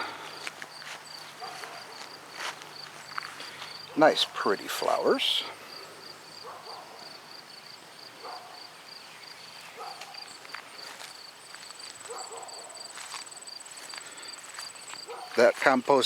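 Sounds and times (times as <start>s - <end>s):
insect high continuous trill: 0.2s - 16.0s.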